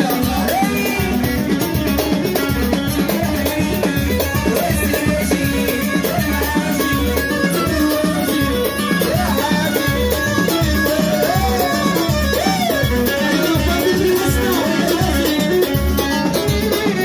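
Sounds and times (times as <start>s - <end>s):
drum and percussion beat: 0.0s - 17.0s.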